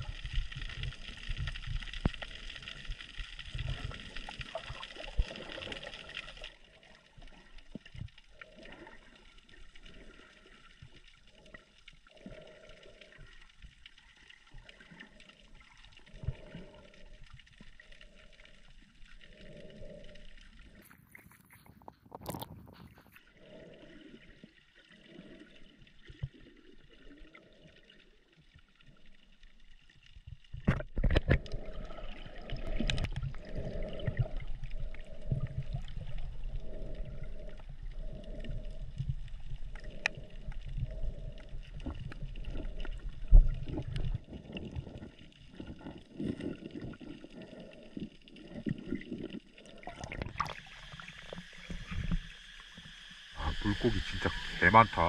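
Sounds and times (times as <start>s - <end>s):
low underwater rumble: 0.0s - 27.3s, 28.1s - 54.9s
water sloshing and gurgling: 0.0s - 55.0s.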